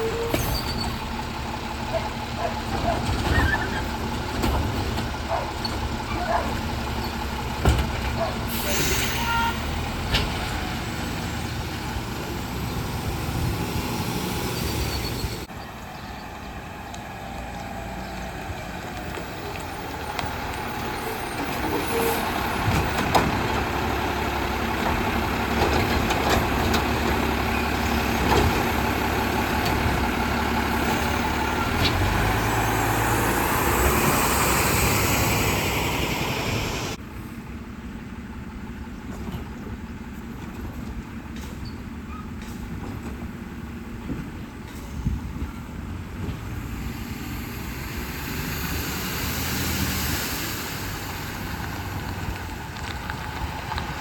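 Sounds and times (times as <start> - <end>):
garbage truck diesel engine: 0.0 - 54.0.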